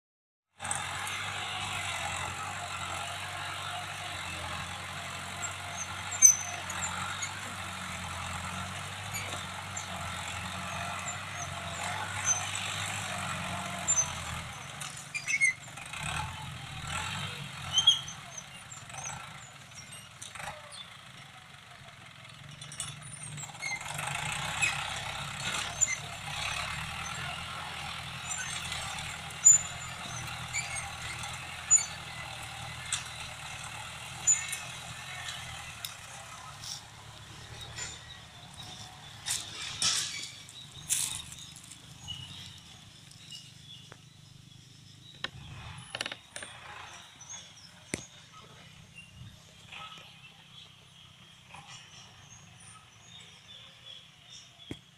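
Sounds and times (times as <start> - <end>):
diesel tractor engine droning: 0.5 - 54.9.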